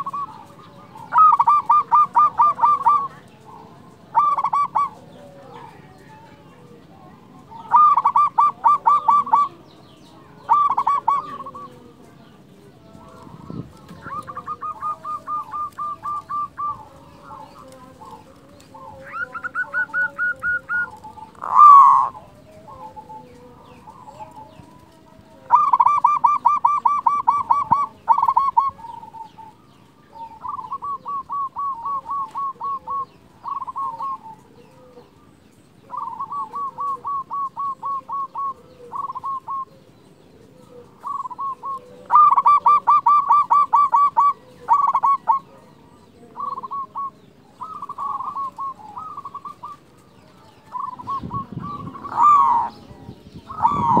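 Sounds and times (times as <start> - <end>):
doves cooing staccato: 0.0 - 54.0.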